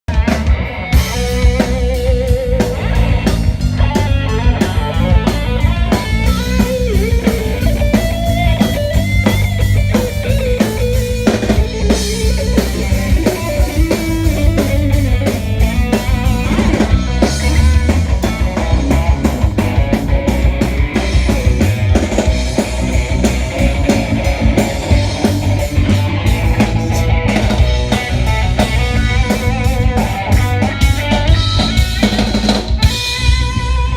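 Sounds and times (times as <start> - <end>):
drum kit beat: 0.1 - 33.9
guitar lead melody: 0.1 - 33.9.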